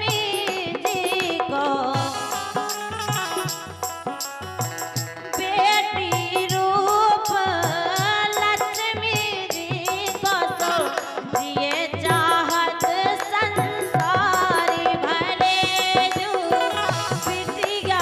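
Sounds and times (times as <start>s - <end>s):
woman singing: 0.0s - 3.1s, 5.3s - 18.0s
harmonium: 0.0s - 18.0s
steady drum beat: 0.0s - 18.0s.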